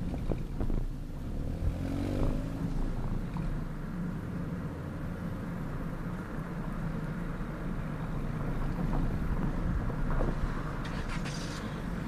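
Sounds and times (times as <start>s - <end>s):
car exhaust drone: 2.2s - 12.0s.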